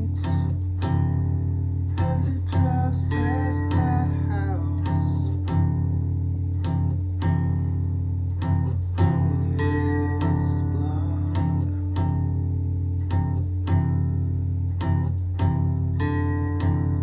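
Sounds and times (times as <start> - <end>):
guitar chords: 0.0 - 17.0.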